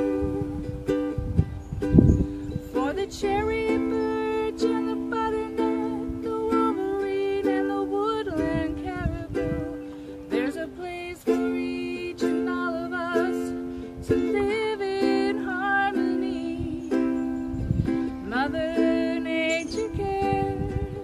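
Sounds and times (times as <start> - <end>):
person singing: 0.0 - 1.4, 2.3 - 21.0
ukulele strumming chords: 0.0 - 21.0.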